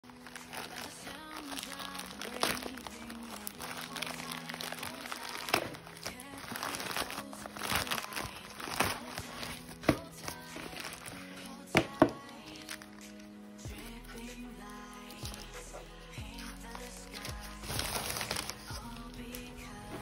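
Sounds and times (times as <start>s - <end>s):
plastic bag crinkling and tearing: 0.0s - 19.5s
background music with held notes: 0.0s - 20.0s.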